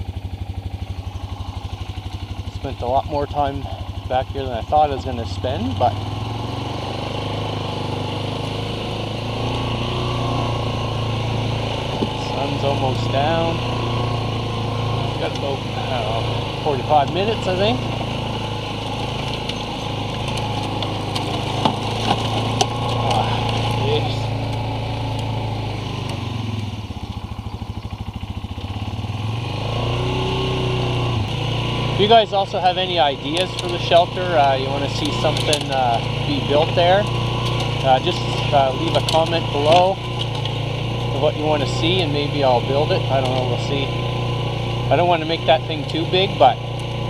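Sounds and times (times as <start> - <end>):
atv engine idling: 0.0 - 47.0.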